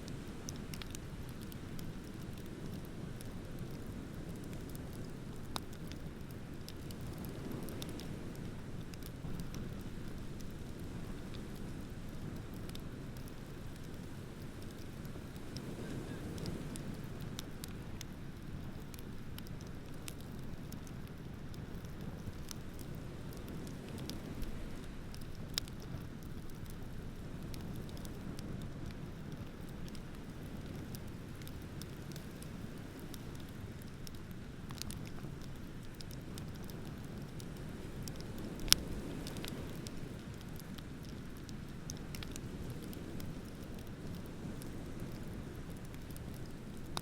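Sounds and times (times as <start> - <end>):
wood bonfire crackling and popping: 0.0 - 47.0.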